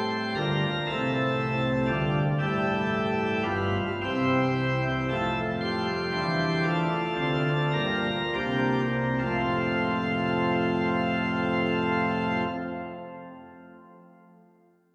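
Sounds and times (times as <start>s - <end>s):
pipe organ chords: 0.0s - 14.6s.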